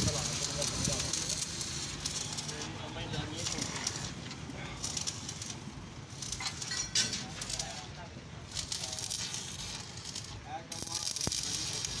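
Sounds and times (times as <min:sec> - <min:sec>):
electric arc welding crackling: 0:00.0 - 0:12.0.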